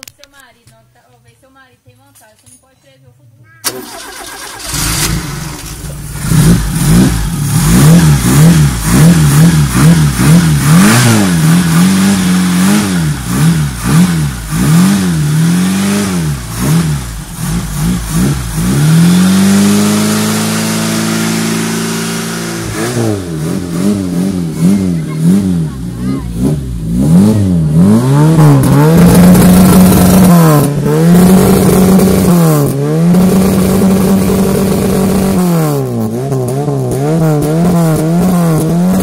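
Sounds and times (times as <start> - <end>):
car engine revving: 3.7 - 39.0.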